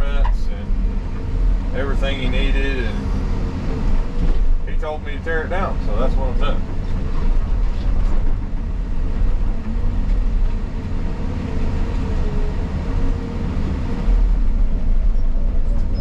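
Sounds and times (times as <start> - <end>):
excavator diesel engine rumbling: 0.0 - 16.0.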